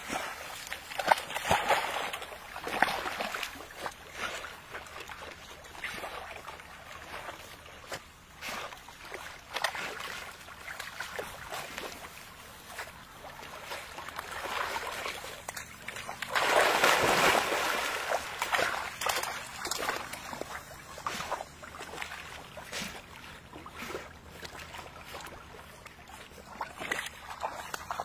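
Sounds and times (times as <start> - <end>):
dogs splashing through water: 0.0 - 28.0.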